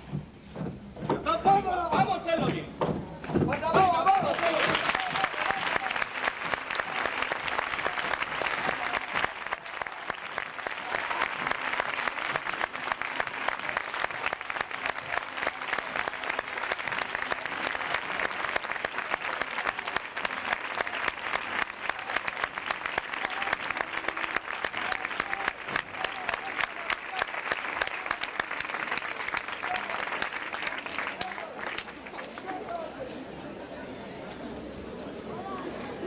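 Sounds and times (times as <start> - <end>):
large crowd applauding: 3.2 - 33.0.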